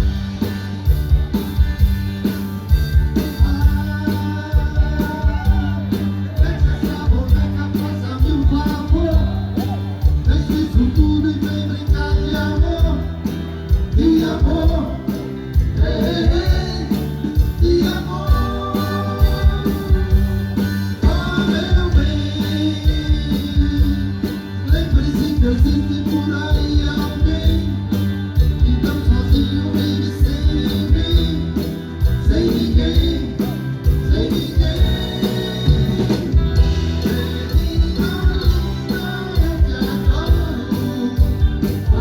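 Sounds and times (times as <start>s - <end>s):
drum kit beat: 0.0s - 42.0s
live band playing dance music: 0.0s - 42.0s.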